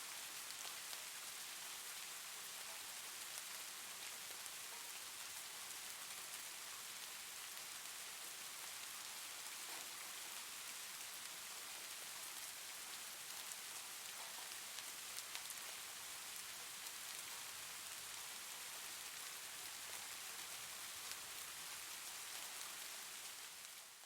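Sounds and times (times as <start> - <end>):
faint raindrop ticks: 0.0 - 23.9
soft rain hiss: 0.0 - 24.0.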